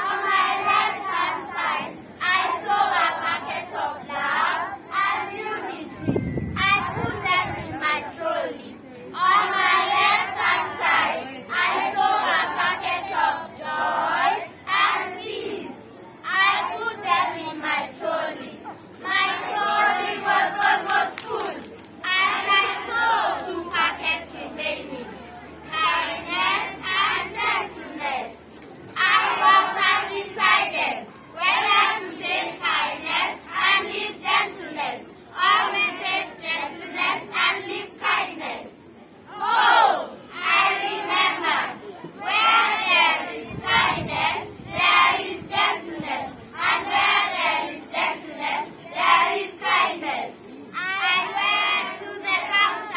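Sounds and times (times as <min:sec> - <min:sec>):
children singing in unison: 0:00.0 - 0:08.4, 0:09.2 - 0:24.9, 0:29.0 - 0:52.9.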